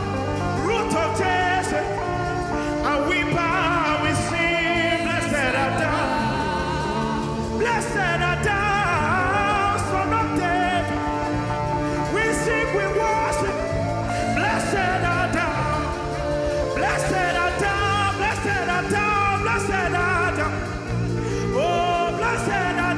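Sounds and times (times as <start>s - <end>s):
people singing with vibrato: 0.0s - 22.9s
steady drum beat: 0.0s - 22.9s
sustained keyboard chords: 0.0s - 22.9s.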